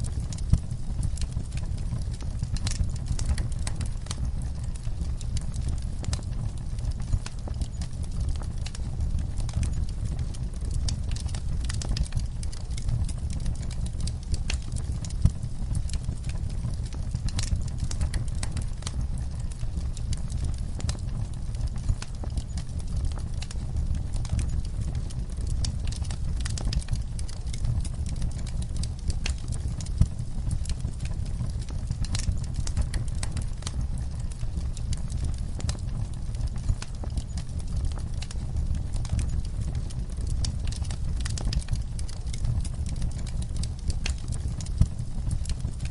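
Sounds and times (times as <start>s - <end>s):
low fire rumble: 0.0s - 45.9s
wood fire crackling: 0.0s - 45.9s.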